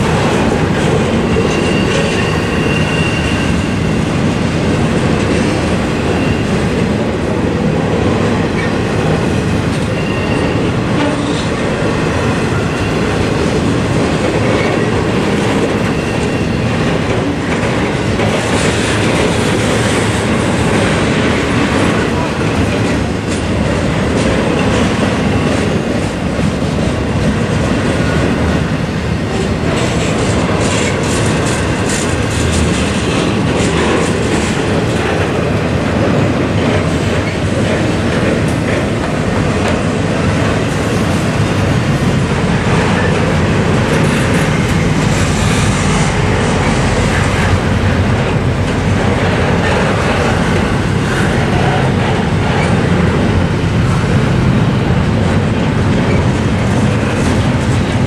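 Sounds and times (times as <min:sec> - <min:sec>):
steel wheels running on rails: 0:00.0 - 0:58.0.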